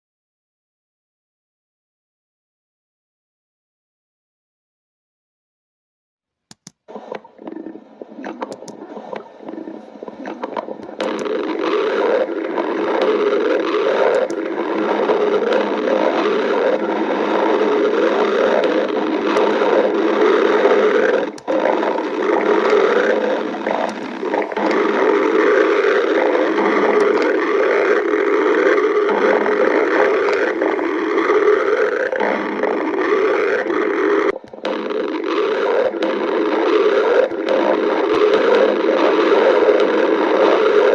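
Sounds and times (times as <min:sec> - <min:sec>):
stomach growling: 0:06.6 - 0:40.9.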